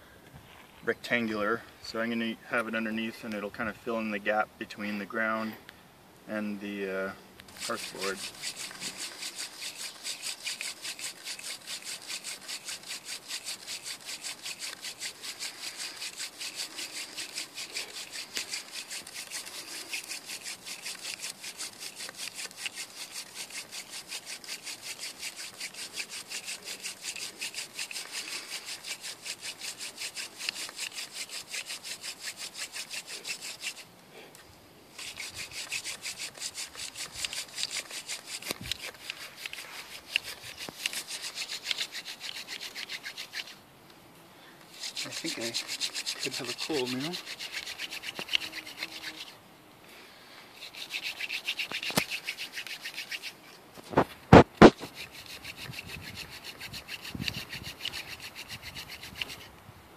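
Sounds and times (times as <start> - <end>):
wood-on-wood rubbing of hand drill: 7.5 - 33.9, 34.9 - 43.6, 44.7 - 49.4, 50.6 - 59.5.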